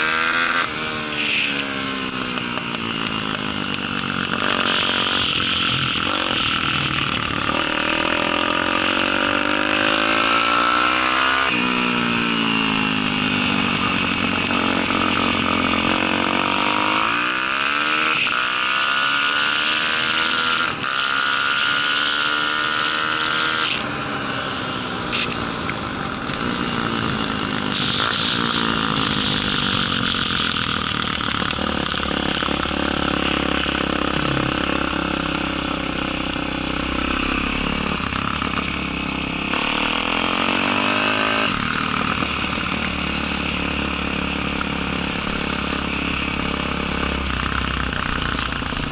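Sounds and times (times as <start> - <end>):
pit bike engine revving: 0.0 - 24.4, 26.0 - 48.9.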